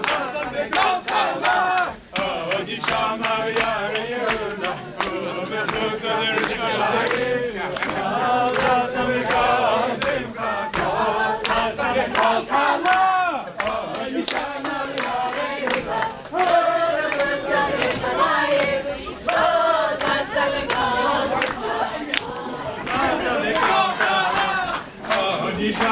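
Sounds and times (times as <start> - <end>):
crowd singing dance song: 0.0 - 25.9
rhythmic handclaps: 0.0 - 25.9.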